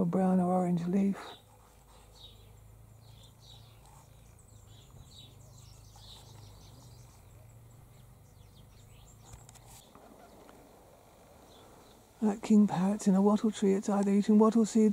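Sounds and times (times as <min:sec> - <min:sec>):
birds chirping and twittering: 0:00.0 - 0:14.9.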